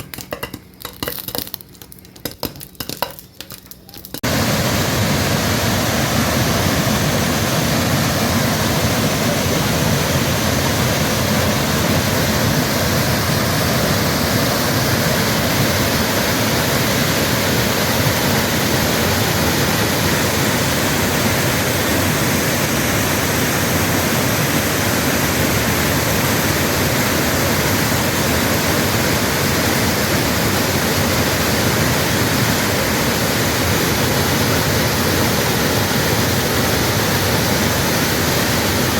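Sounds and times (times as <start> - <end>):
waterfall roaring: 4.2 - 38.9.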